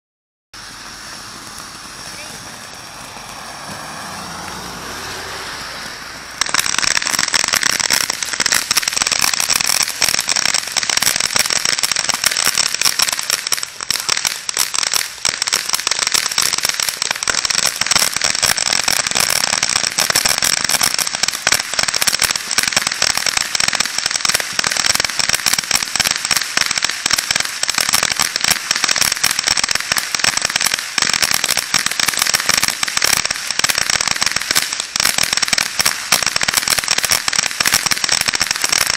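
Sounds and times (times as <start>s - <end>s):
fireworks fountain crackling: 0.6s - 38.9s
fireworks fountain hiss: 0.6s - 38.9s.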